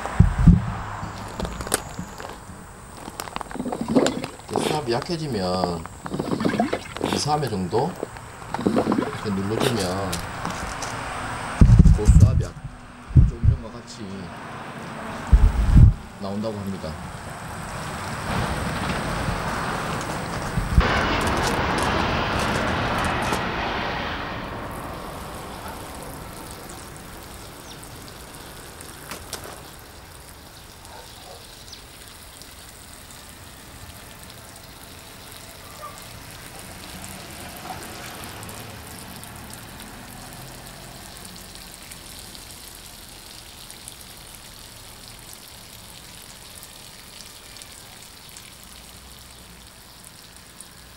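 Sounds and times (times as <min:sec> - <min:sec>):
water pattering on gravel: 0:00.0 - 0:13.8, 0:16.2 - 0:23.7, 0:24.6 - 0:50.9
water spraying onto grass: 0:00.0 - 0:14.0, 0:15.0 - 0:50.9.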